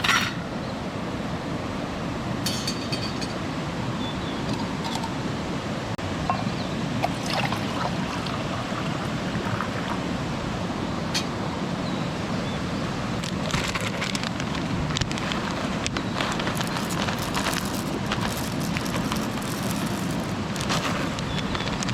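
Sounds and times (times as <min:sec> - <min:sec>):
mountain stream flowing: 0:00.9 - 0:21.9.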